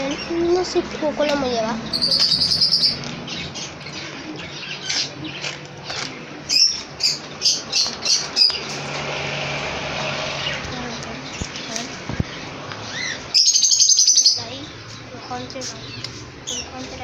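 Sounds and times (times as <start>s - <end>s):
small cage birds chirping: 0.0s - 17.0s.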